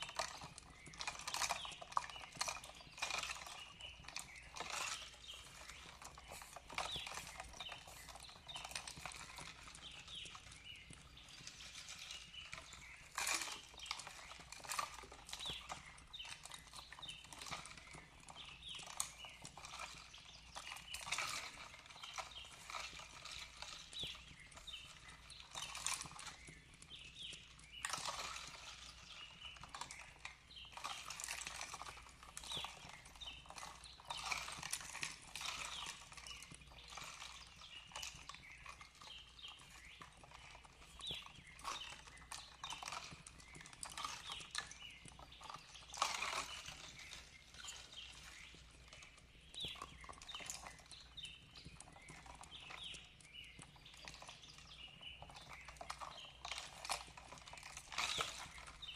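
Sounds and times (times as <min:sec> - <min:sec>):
small birds chirping: 0:00.0 - 0:58.9
wood fire crackling and popping: 0:00.0 - 0:58.9.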